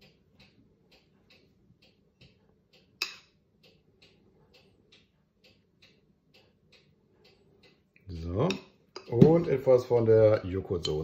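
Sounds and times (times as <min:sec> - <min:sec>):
faint even ticking: 0:00.0 - 0:11.0.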